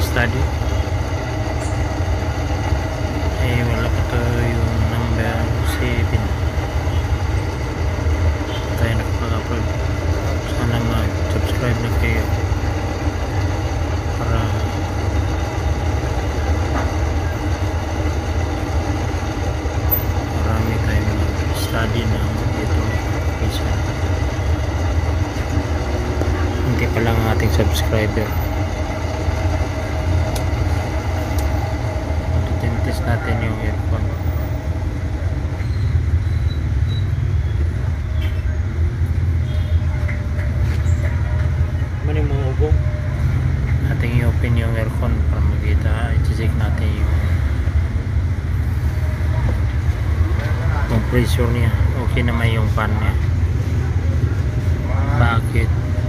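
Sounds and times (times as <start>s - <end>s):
air conditioner humming: 0.0s - 56.0s.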